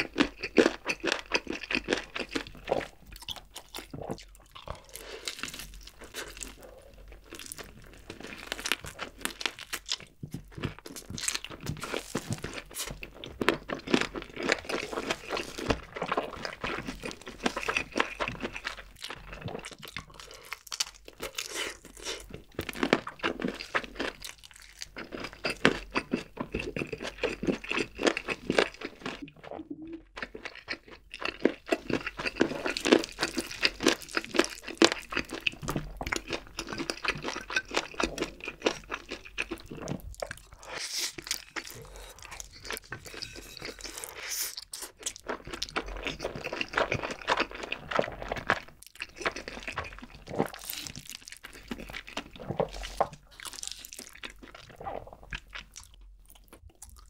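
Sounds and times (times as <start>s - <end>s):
crunching fried chicken: 0.0s - 29.3s, 30.0s - 57.0s.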